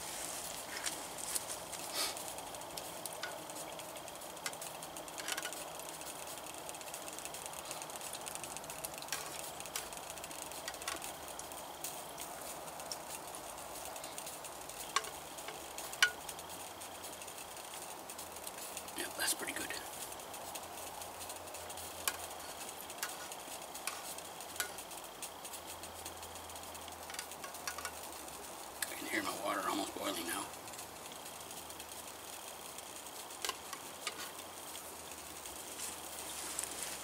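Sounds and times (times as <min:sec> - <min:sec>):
stove hissing under pot: 0:00.0 - 0:37.0.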